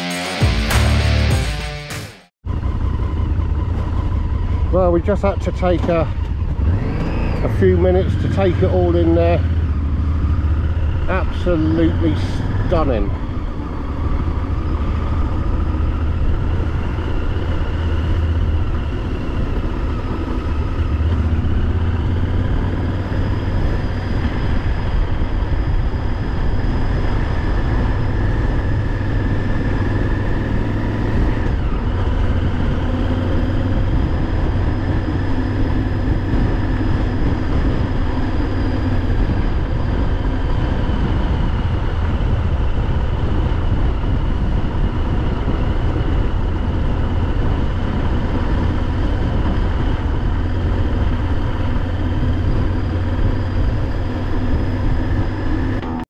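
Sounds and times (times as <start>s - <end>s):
motorcycle engine running: 0.0s - 56.0s
wind rush: 2.5s - 56.0s.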